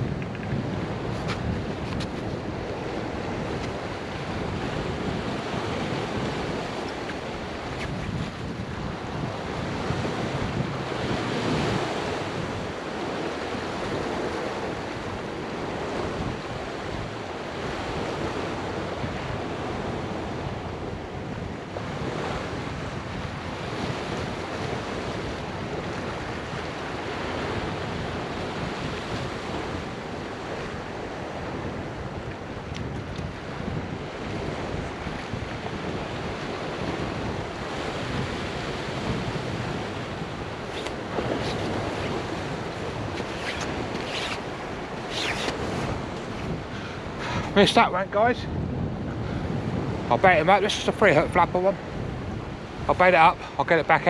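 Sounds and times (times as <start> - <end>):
wind buffeting microphone: 0.0 - 53.6
surf washing onto beach: 0.0 - 54.0.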